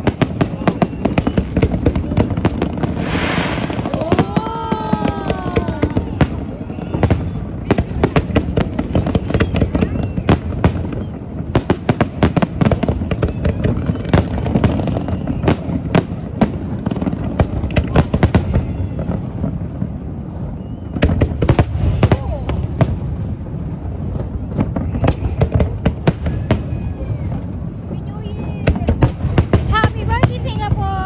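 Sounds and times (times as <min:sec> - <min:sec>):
crowd murmur: 0:00.0 - 0:20.6, 0:21.6 - 0:31.0
fireworks bangs and crackles: 0:00.0 - 0:31.0.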